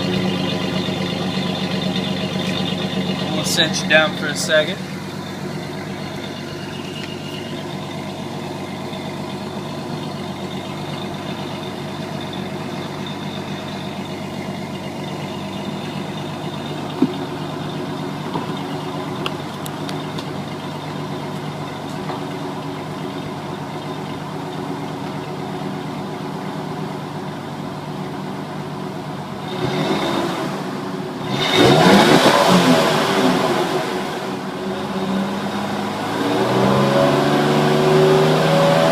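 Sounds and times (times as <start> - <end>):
truck engine idling and revving: 0.0 - 38.9.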